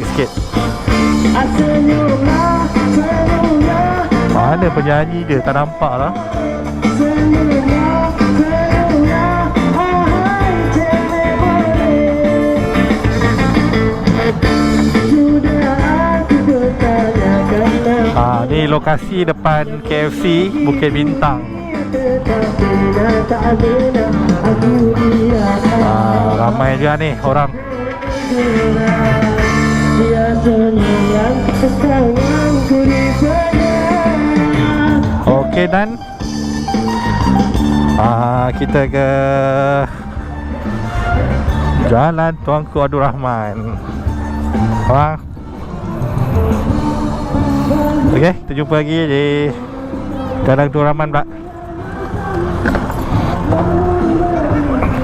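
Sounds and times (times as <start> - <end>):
person singing: 0.0 - 13.8, 14.6 - 37.0, 45.7 - 55.0
bass: 0.0 - 55.0
guitar: 0.0 - 55.0
rock band through loudspeakers: 0.0 - 55.0.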